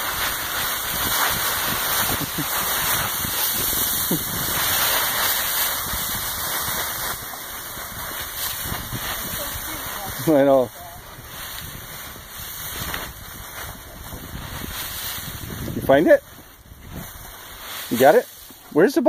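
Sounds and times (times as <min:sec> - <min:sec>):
dry leaves rustling and crunching: 0:00.0 - 0:19.0.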